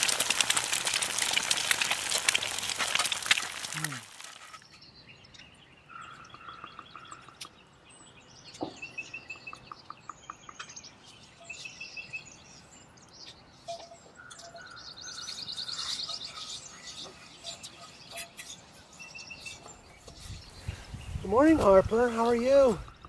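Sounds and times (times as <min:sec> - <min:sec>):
birds chirping and calling: 0:04.5 - 0:23.0.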